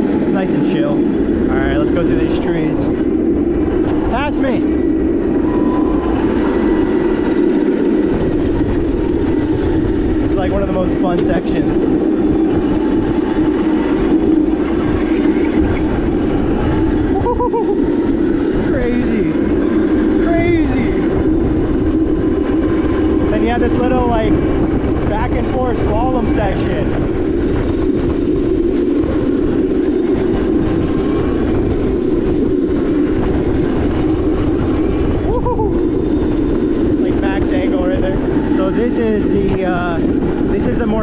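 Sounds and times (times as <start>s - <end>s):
electric kart drive running: 0.0s - 41.0s
electric motor and wheels humming: 0.0s - 41.0s
wind noise on microphone: 0.0s - 41.0s.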